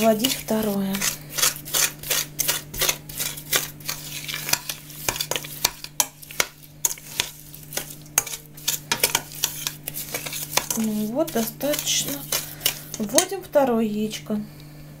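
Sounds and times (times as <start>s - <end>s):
spoon scraping metal pot: 0.0s - 13.4s
spoon stirring thick mixture: 0.0s - 13.6s.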